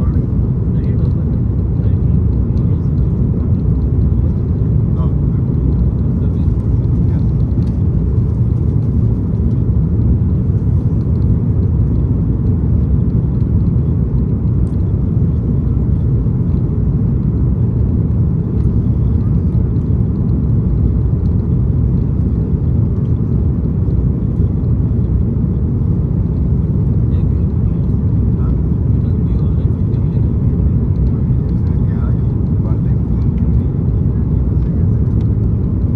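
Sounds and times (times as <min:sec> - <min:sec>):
airplane cabin engine rumble: 0:00.0 - 0:35.9.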